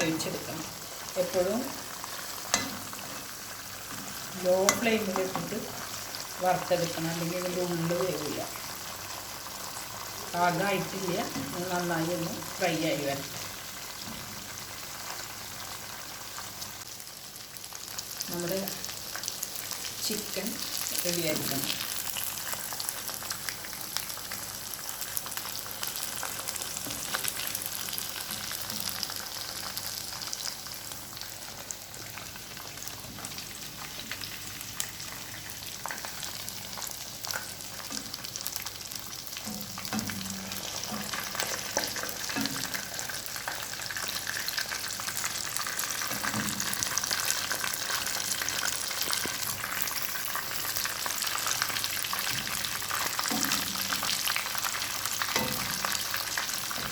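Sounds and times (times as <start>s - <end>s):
chicken frying in hot oil: 0.0s - 56.9s.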